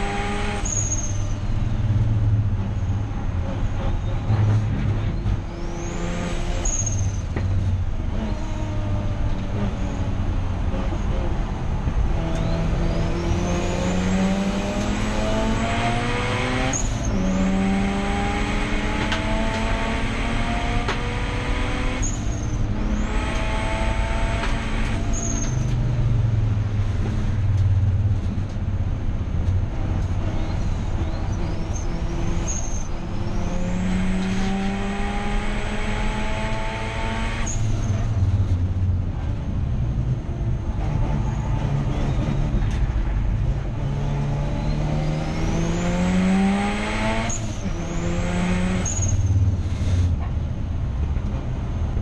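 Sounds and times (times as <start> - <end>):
rotary engine accelerating hard: 0.0 - 28.6, 29.7 - 52.0.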